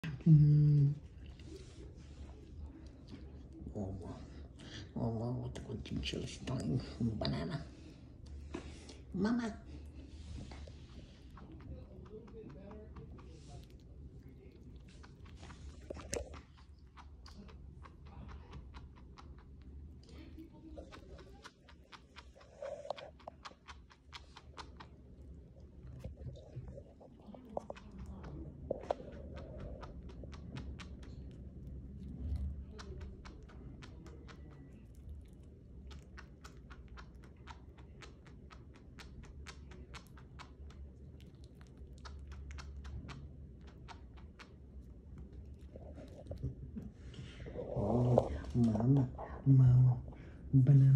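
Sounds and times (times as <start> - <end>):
chinchilla chewing: 5.6 - 50.5.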